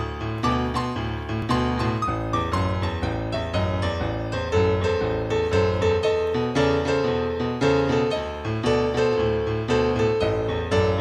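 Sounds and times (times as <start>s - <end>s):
piano playing: 0.0s - 11.0s.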